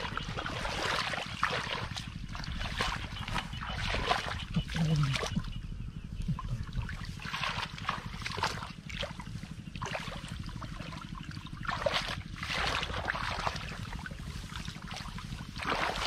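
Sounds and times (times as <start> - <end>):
hands splashing in muddy water: 0.0 - 5.4, 6.7 - 16.0
steady low rumble: 0.0 - 16.0.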